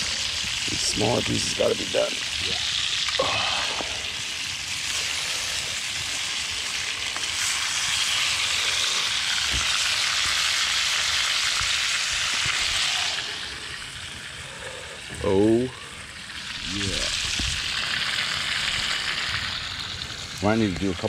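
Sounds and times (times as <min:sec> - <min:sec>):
fish sizzling in a skillet: 0:00.0 - 0:21.0.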